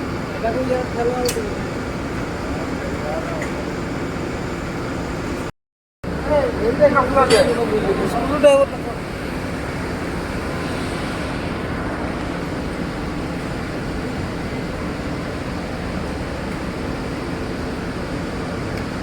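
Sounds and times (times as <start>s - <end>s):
industrial machinery drone: 0.0s - 19.0s.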